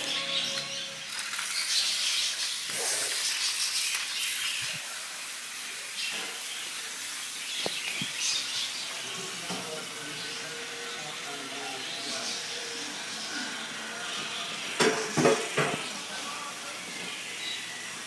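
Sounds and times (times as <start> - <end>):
toy train hissing: 0.0 - 18.0.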